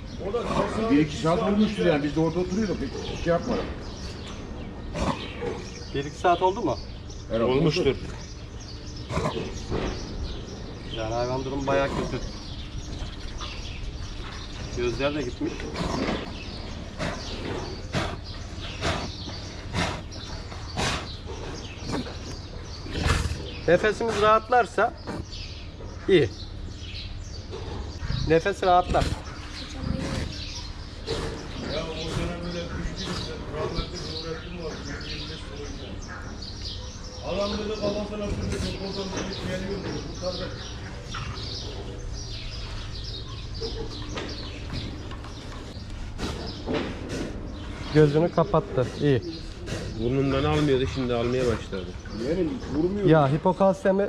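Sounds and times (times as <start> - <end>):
steady low rumble: 0.0 - 50.2
cow breathing heavily: 0.0 - 54.0
small birds chirping: 0.0 - 54.0.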